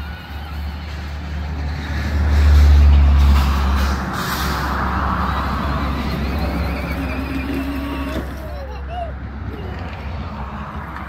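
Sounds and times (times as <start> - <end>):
road and tyre noise: 0.0 - 11.0
truck engine rumble: 0.0 - 11.0.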